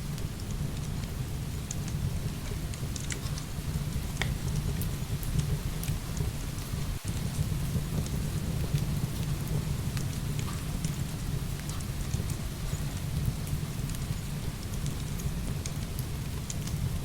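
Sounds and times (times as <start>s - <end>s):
heavy rain pouring: 0.0s - 17.0s
wood fire crackling: 0.0s - 17.0s.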